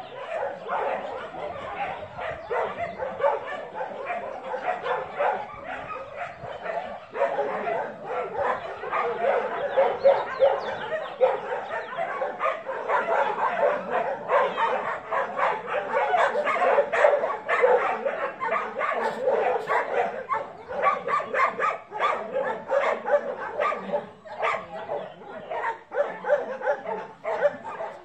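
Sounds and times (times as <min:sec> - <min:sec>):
puppies yipping and barking: 0:00.0 - 0:28.0.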